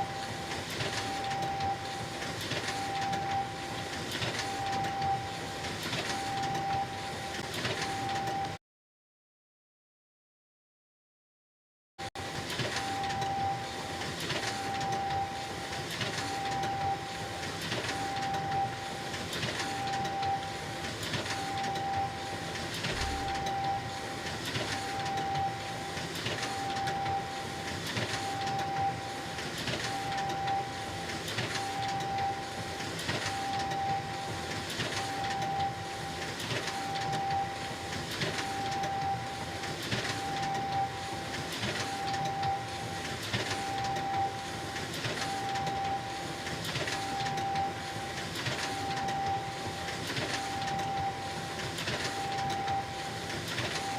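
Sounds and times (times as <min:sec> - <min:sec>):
photocopier whirring: 0:00.0 - 0:08.6, 0:12.2 - 0:53.9.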